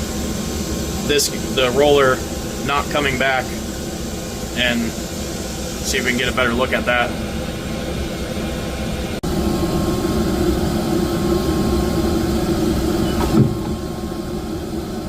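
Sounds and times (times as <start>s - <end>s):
lathe humming: 0.0s - 15.0s.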